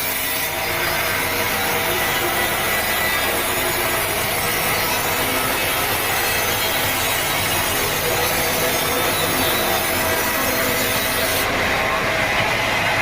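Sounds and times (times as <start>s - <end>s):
sawmill saw cutting log: 0.0s - 12.6s.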